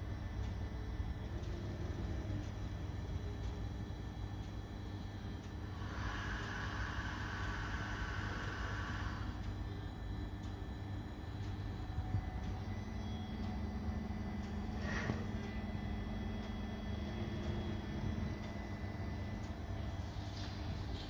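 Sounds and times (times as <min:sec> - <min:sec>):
machine rumble and hum: 0:00.0 - 0:21.0.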